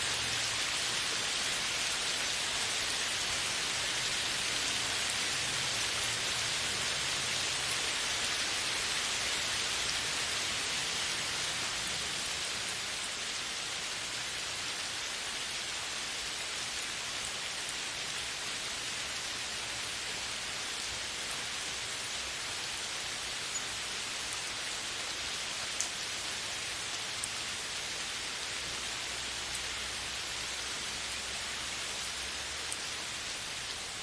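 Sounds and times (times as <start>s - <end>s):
rain on leafy canopy: 0.0s - 34.0s.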